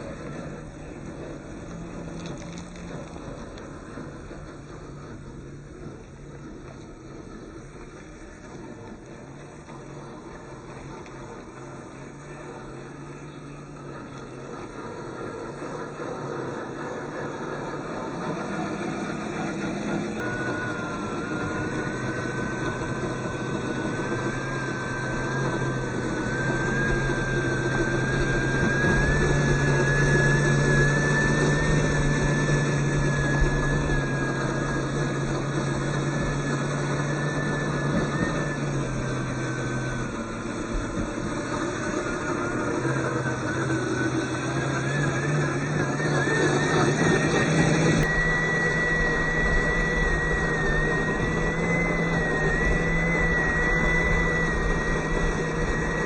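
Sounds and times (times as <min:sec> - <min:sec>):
low steady hum: 0:00.0 - 0:56.0
thin wavering motor whine: 0:00.0 - 0:56.0.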